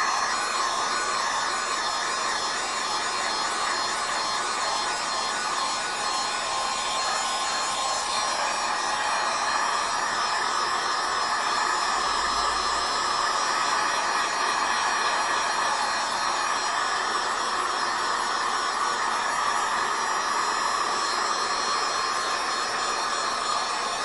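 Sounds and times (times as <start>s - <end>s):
heat gun blowing air: 0.0s - 24.0s.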